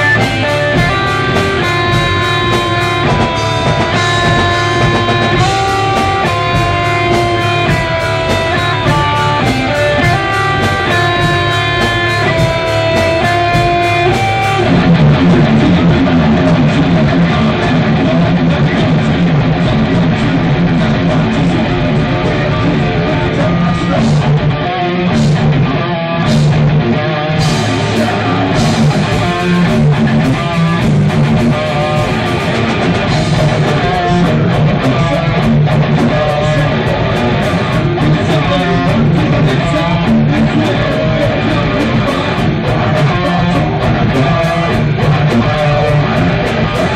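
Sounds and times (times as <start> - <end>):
metal band playing live: 0.0 - 46.9.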